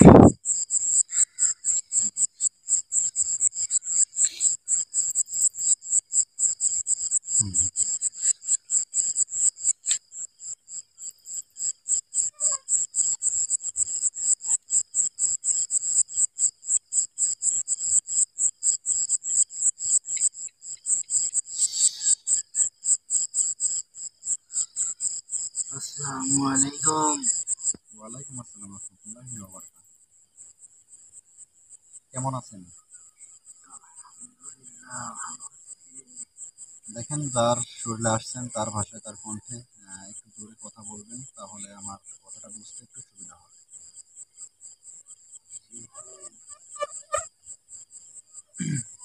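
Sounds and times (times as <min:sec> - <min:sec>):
cricket chirping: 0:00.0 - 0:49.0.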